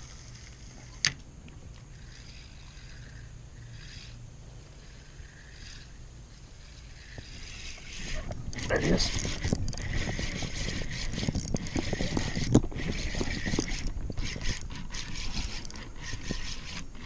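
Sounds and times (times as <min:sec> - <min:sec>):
faint low hum: 0:00.0 - 0:17.0
fishing line winding in: 0:00.0 - 0:17.0.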